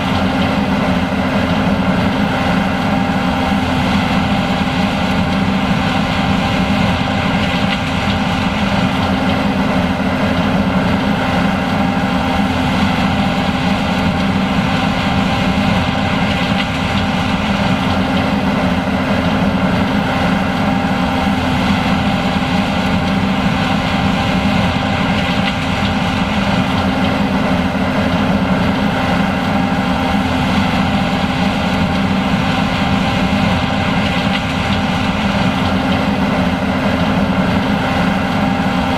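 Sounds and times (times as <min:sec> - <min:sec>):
combine harvester droning: 0:00.0 - 0:38.9.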